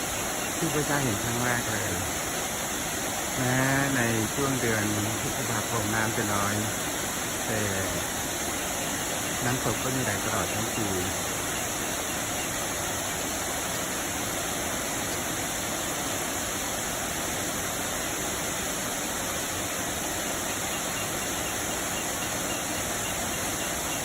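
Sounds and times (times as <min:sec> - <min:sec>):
waterfall splashing: 0:00.0 - 0:24.0.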